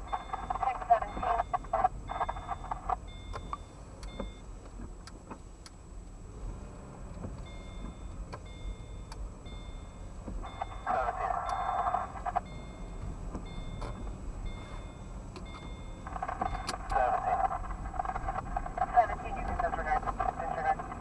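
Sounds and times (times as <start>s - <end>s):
high electronic beep: 0.0s - 4.4s, 7.5s - 20.8s
engine and road rumble: 0.0s - 21.0s.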